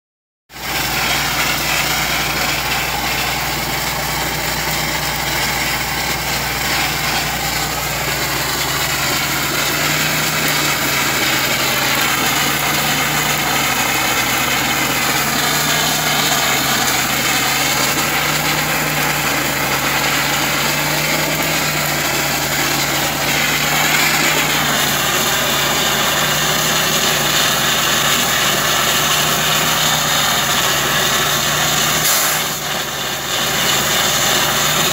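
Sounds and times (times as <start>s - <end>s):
machine engine humming: 0.6s - 34.9s
nozzle spraying mortar: 0.6s - 34.9s.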